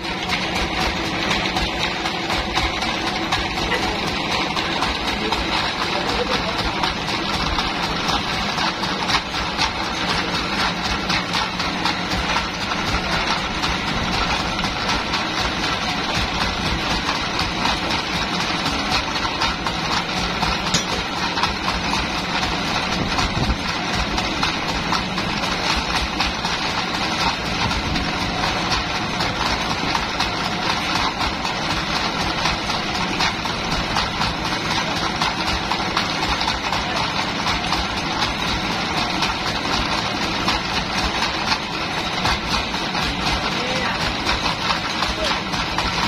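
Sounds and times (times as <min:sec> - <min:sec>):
sawmill machinery drone: 0:00.0 - 0:46.0.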